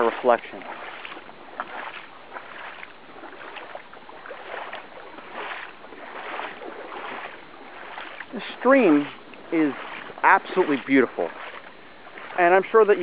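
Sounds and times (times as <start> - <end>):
creek water trickling: 0.0 - 13.0
small water splashes: 0.0 - 13.0.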